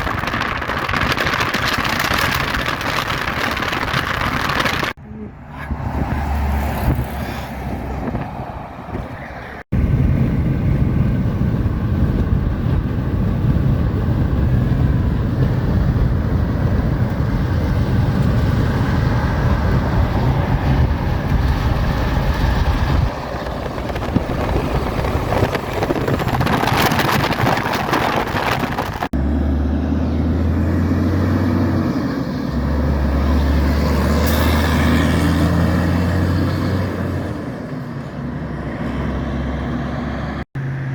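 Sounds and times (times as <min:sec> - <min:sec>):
diesel truck engines rumbling: 0:00.0 - 0:40.9.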